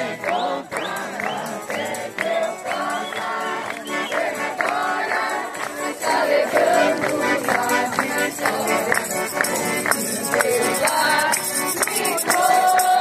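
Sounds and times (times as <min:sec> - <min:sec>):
accordion music: 0:00.0 - 0:13.0
percussion steady beat: 0:00.0 - 0:13.0.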